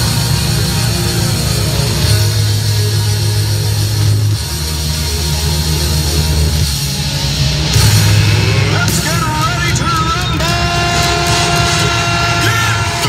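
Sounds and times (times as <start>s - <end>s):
heavy rock music with electric guitar: 0.0s - 13.0s
rush of noise: 0.0s - 13.0s.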